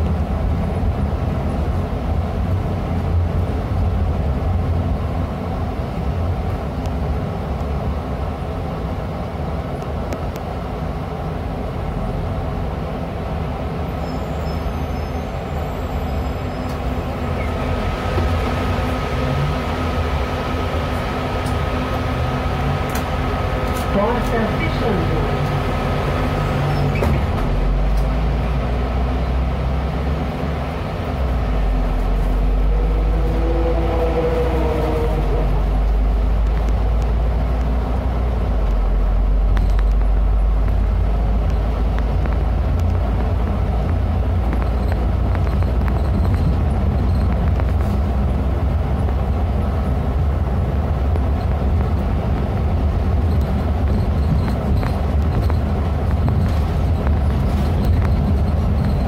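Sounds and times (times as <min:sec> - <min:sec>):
bus engine drone: 0:00.0 - 0:59.0
road rumble: 0:00.0 - 0:59.0.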